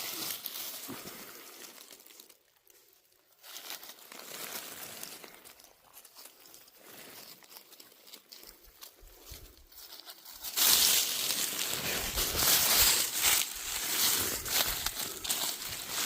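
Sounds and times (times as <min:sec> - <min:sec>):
dry leaves crunching and rustling: 0:00.0 - 0:02.4, 0:03.3 - 0:16.0.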